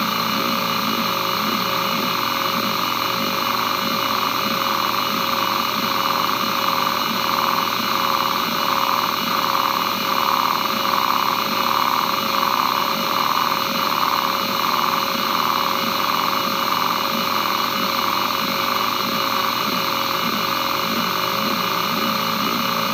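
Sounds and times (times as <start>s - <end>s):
spindle motor whine: 0.0s - 22.9s
hard drive seek chatter: 1.2s - 22.9s.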